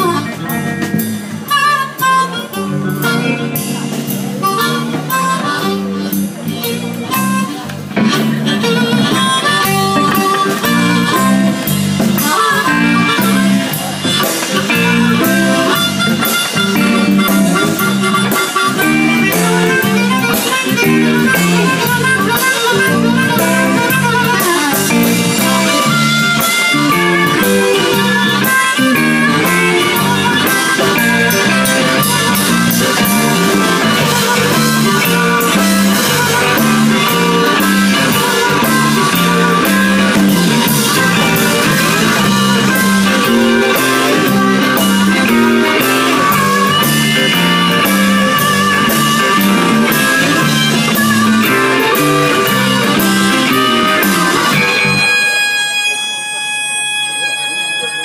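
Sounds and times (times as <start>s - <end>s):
blues band playing: 0.0s - 58.0s
harmonica runs: 0.0s - 58.0s.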